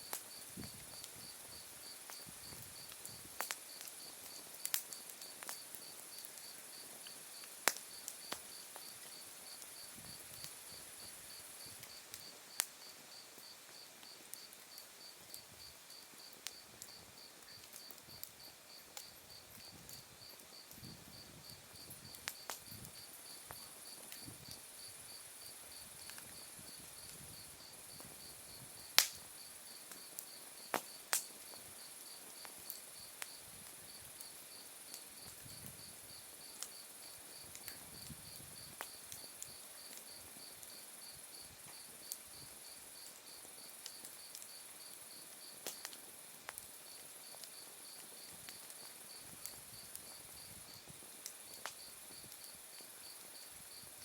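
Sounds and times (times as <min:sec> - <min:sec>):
wood fire crackling and popping: 0:00.1 - 0:36.8, 0:37.4 - 0:40.8, 0:41.6 - 0:53.4.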